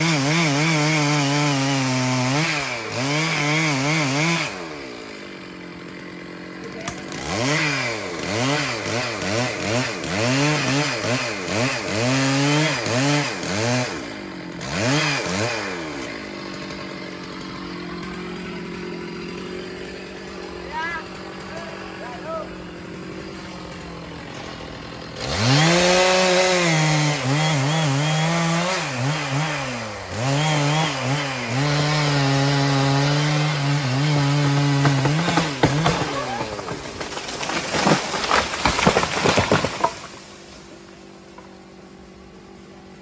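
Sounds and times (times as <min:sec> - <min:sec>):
chainsaw engine revving and idling: 0:00.0 - 0:43.0.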